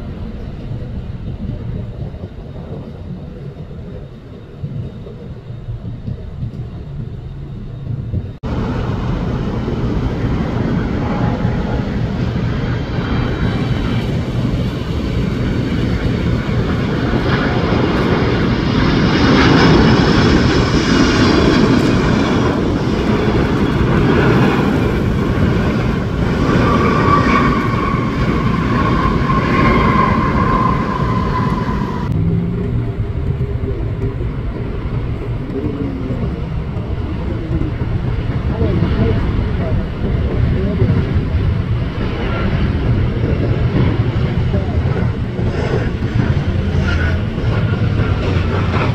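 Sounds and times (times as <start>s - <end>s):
duller jet rumble: 0.0s - 48.9s
jet airliner engine rumble: 0.0s - 48.9s.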